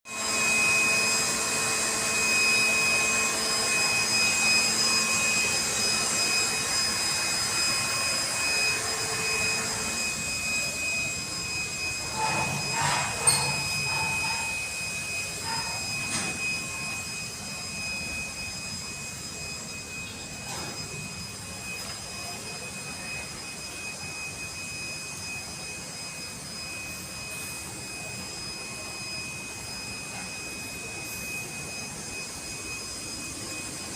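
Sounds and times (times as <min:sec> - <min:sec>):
machine rushing with high whine: 0:00.1 - 0:33.9.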